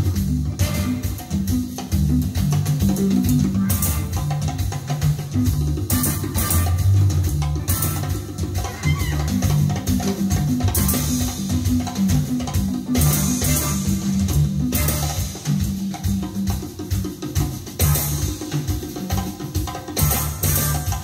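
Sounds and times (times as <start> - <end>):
jazz band through loudspeakers: 0.0 - 21.0.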